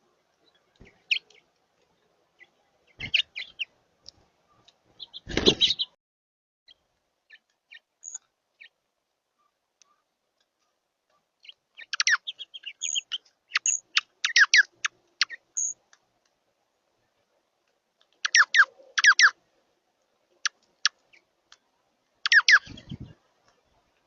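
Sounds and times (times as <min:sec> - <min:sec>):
small birds chirping: 0:00.0 - 0:06.0, 0:06.7 - 0:24.0.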